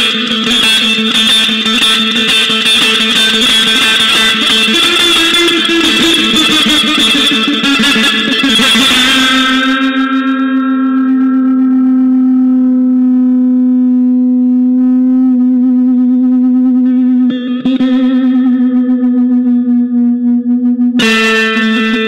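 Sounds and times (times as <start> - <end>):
guitar strumming: 0.0 - 14.2, 15.6 - 22.0
plucked guitar strings: 0.0 - 14.6, 15.2 - 22.0
guitar sustained note: 0.0 - 22.0.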